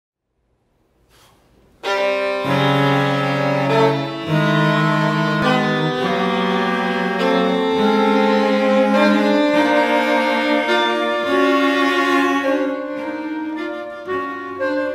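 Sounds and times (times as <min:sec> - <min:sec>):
chamber quartet playing chords: 0:01.7 - 0:14.9.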